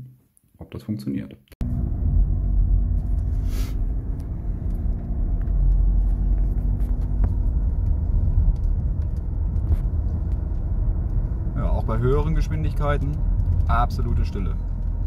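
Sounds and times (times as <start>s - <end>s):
car cabin engine and tyre rumble: 1.6s - 15.0s.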